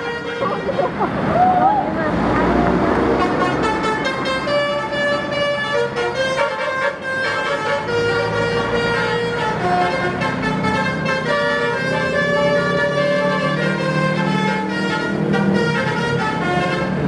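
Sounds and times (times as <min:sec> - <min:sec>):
musical bus horn melody: 0:00.0 - 0:01.2, 0:03.0 - 0:17.0.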